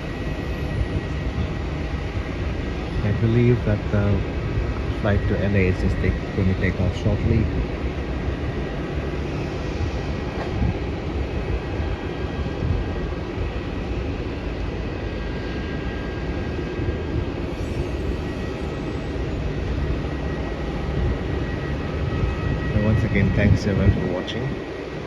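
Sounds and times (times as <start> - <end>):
low airport rumble: 0.0 - 25.0.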